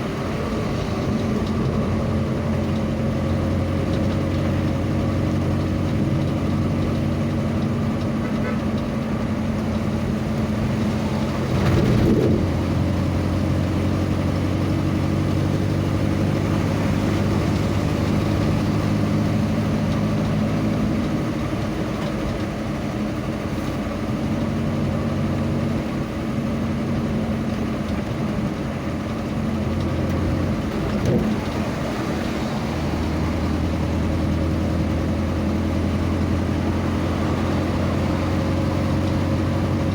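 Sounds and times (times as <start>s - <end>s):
vehicle engine hum: 0.0s - 39.9s.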